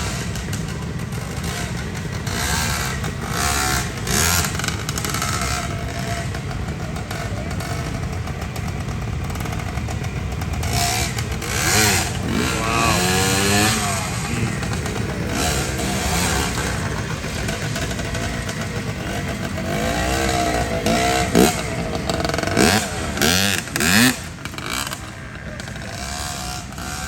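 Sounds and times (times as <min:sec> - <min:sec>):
motorcycle engine revving: 0:00.0 - 0:27.0
motorcycle engines running: 0:00.0 - 0:27.0.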